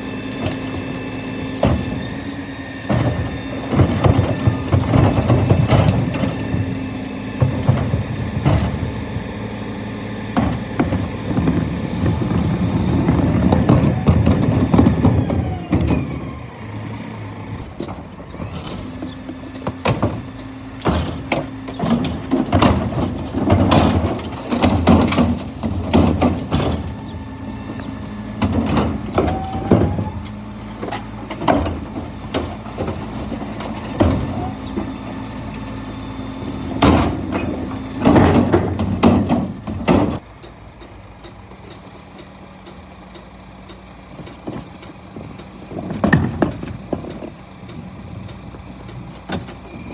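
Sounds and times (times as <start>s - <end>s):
bins knocking and banging: 0.0s - 9.4s, 10.3s - 16.2s, 17.6s - 40.3s, 44.2s - 47.8s
hydraulic drone: 0.0s - 40.5s
truck engine idling: 0.0s - 49.9s.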